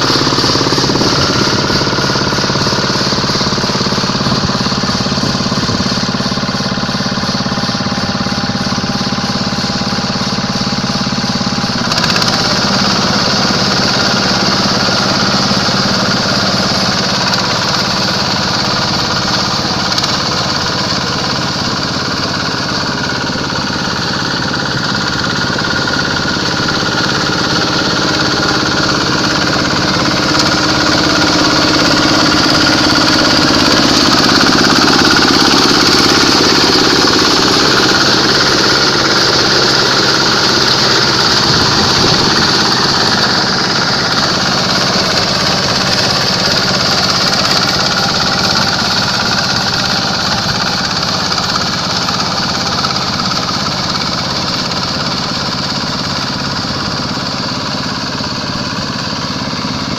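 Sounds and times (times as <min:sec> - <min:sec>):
combine harvester diesel engine running: 0:00.0 - 0:59.9.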